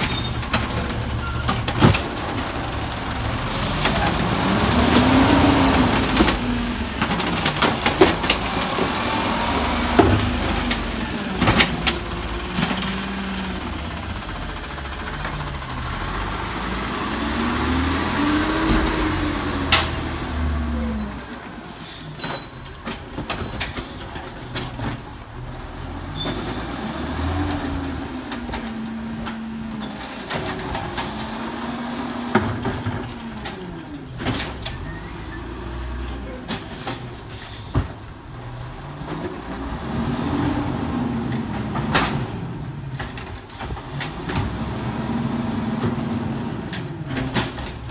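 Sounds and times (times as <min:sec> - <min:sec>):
truck engine revving: 0:00.0 - 0:21.6, 0:25.2 - 0:37.0, 0:38.4 - 0:43.0, 0:43.6 - 0:47.9.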